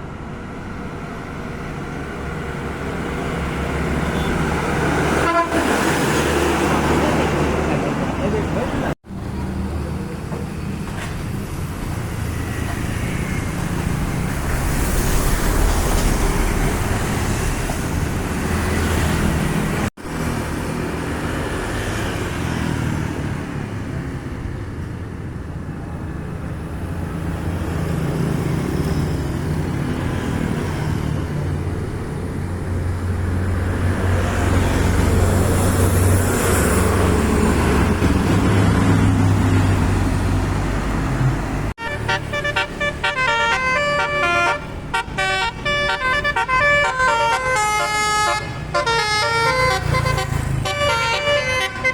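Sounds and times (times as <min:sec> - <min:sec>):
large vehicles passing: 0:00.0 - 0:51.9.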